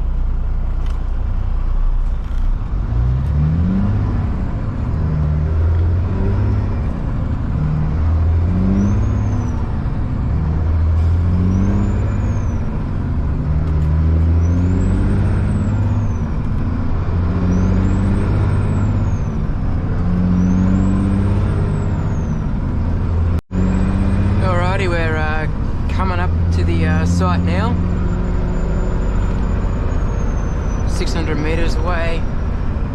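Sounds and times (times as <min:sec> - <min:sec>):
truck diesel engine running: 0:00.0 - 0:32.9.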